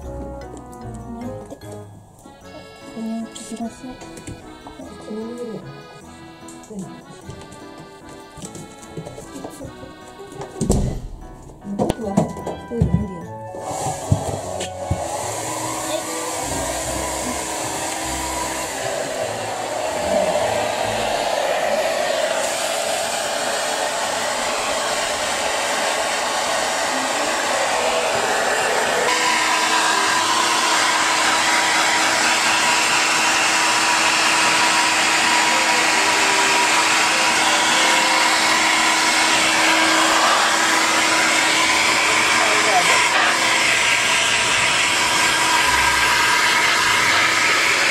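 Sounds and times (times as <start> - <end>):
hair dryer running: 2.3 - 10.7, 13.5 - 47.9.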